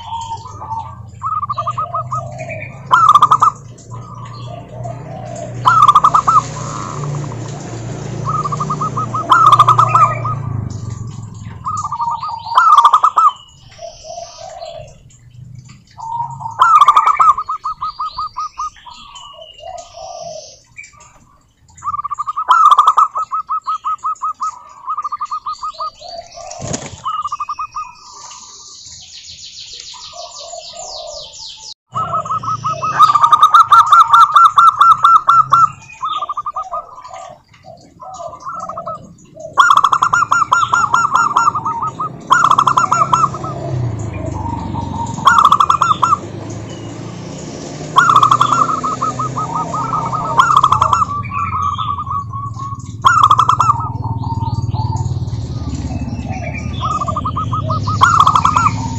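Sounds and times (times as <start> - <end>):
doves cooing: 0.0 - 28.7, 29.9 - 58.9
small birds chirping: 0.0 - 58.9.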